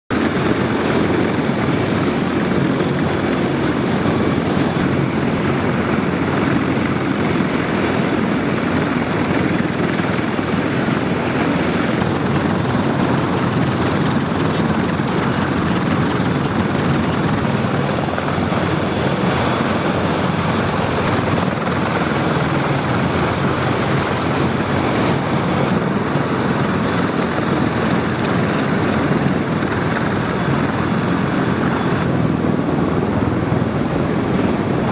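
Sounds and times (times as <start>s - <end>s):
helicopter rotor and turbine drone: 0.1s - 34.9s.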